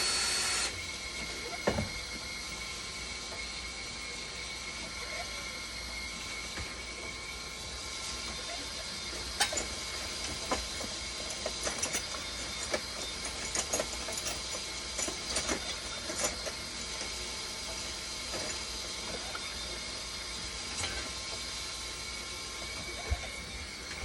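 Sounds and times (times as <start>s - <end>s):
machine humming and hissing: 0.0s - 24.0s.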